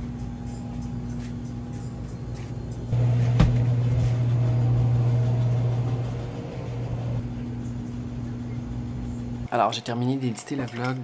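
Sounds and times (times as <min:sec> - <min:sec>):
low mechanical hum: 0:00.0 - 0:09.5.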